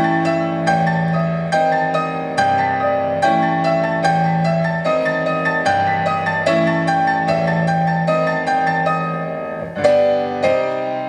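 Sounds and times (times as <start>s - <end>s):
grand piano chords: 0.0s - 11.0s.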